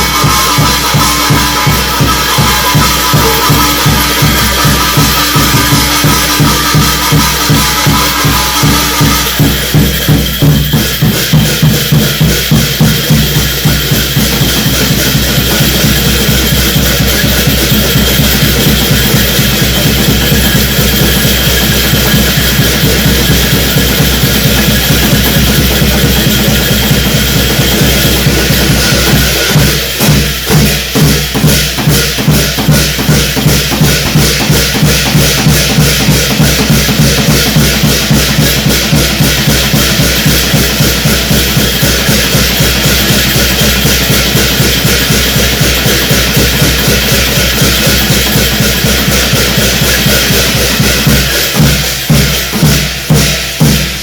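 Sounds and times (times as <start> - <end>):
cymbals crashing: 0.0 - 54.0
loud drums: 0.0 - 54.0.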